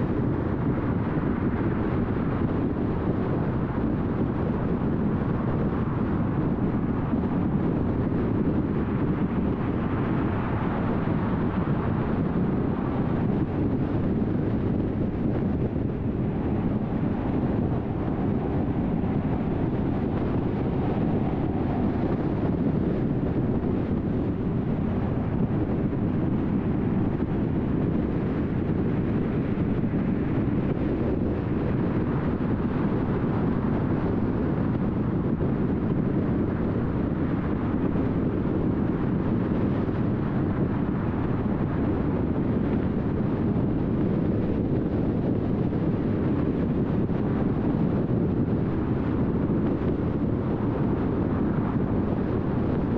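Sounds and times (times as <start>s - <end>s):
wind noise: 0.0s - 52.9s.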